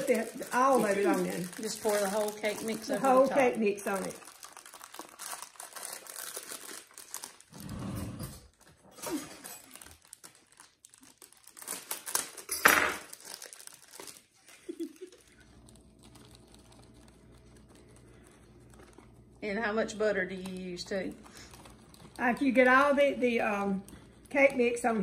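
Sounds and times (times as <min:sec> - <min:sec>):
plastic bag crinkling: 0:00.0 - 0:25.0.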